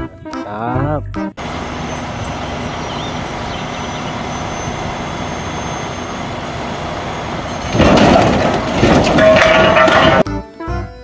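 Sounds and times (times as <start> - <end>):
engine running: 1.4 - 10.2.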